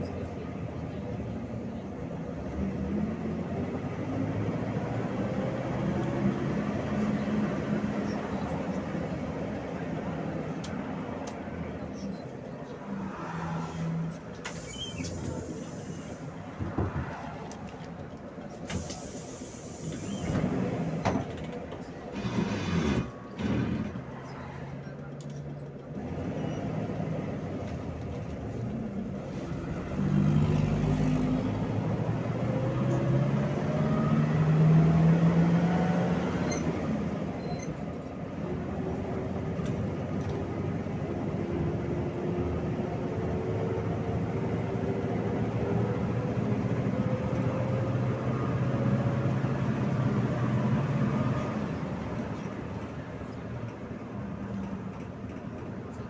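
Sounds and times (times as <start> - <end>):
bus engine accelerating: 0.0 - 56.0.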